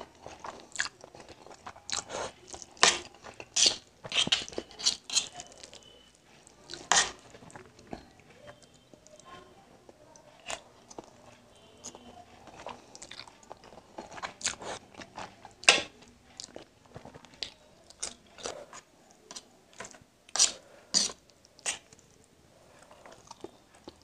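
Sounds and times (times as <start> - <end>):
wet chewing: 0.0 - 9.3, 9.9 - 24.0.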